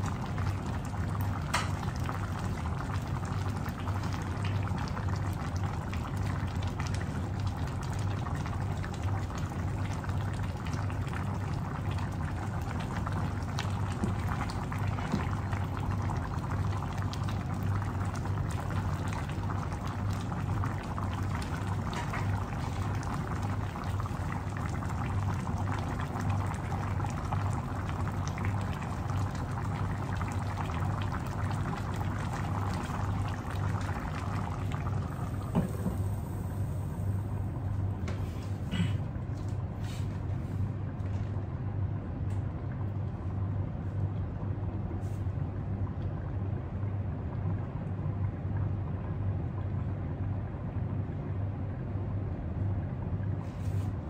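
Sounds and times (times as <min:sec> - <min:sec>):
steady low hum: 0:00.0 - 0:54.0
stew bubbling in a pan: 0:00.0 - 0:54.0.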